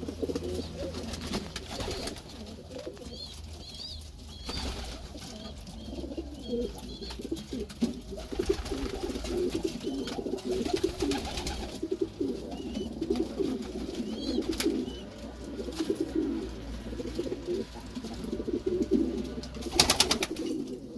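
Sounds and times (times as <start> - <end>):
pigeons cooing: 0.0 - 20.9.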